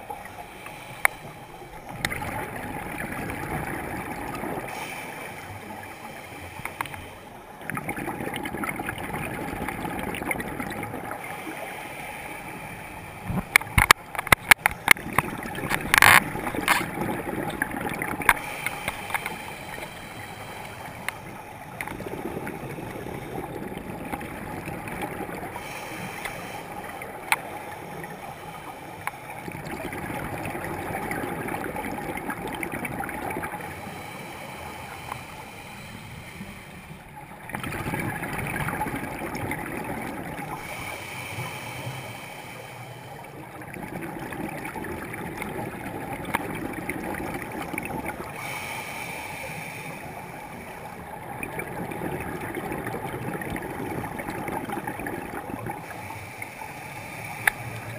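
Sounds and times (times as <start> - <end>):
scuba breathing bubbles gurgling: 0.0 - 57.9.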